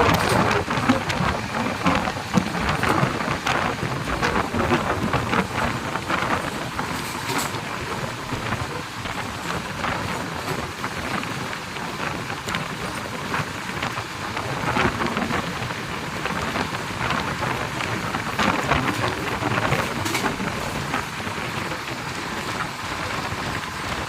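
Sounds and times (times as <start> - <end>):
wheels clicking on rails: 0.0 - 24.0.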